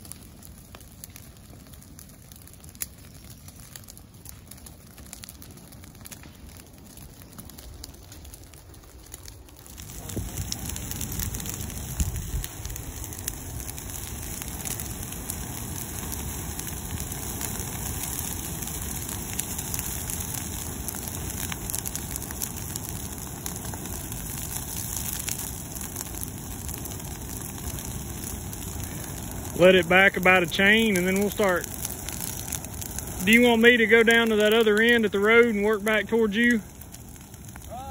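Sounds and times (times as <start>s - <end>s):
fire crackling and rushing: 0.0s - 37.9s.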